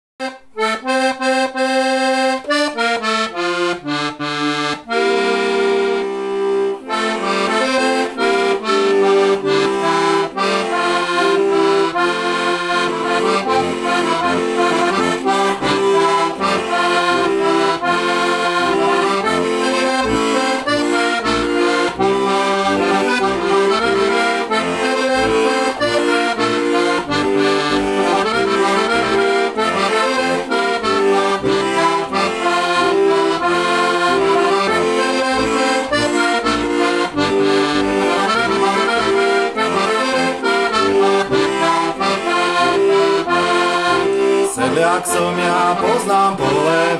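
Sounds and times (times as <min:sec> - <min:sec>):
accordion bass accompaniment: 0:00.2 - 0:46.9
button accordion melody in chords: 0:00.2 - 0:46.9.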